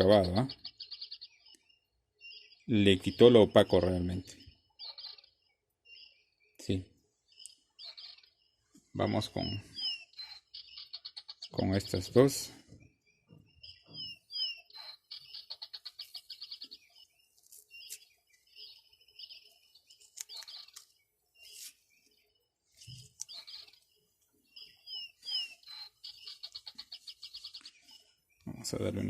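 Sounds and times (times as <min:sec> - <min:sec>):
bird chirps: 0:00.0 - 0:29.0
songbird singing: 0:00.0 - 0:29.0.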